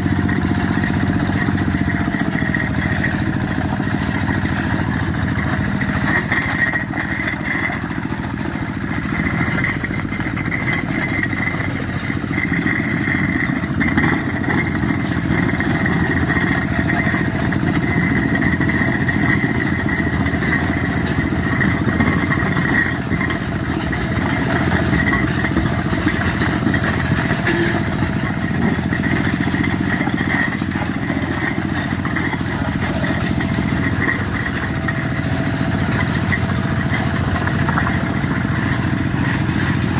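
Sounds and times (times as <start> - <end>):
hand tractor engine under load: 0.0 - 39.9.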